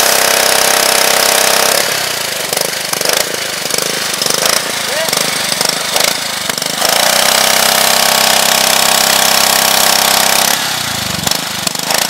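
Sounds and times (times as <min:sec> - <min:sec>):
pressure washer engine rattling: 0:00.0 - 0:12.0.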